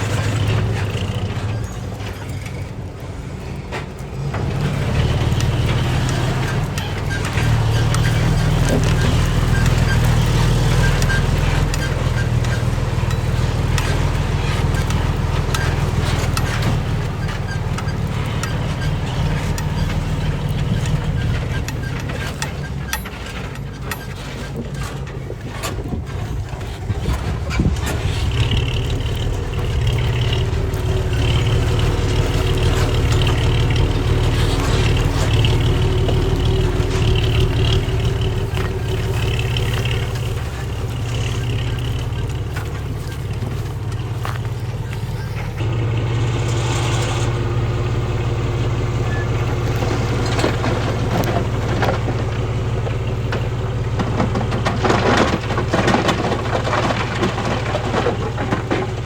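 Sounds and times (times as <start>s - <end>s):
clanks and knocks: 0.0s - 47.4s, 49.0s - 59.0s
heavy diesel machinery running: 0.0s - 59.0s.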